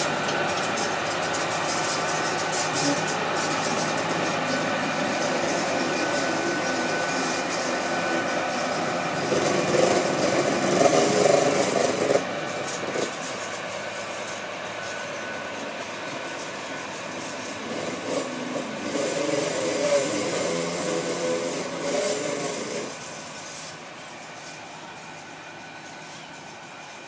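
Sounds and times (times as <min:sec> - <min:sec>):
train humming with high whine: 0:00.0 - 0:27.0.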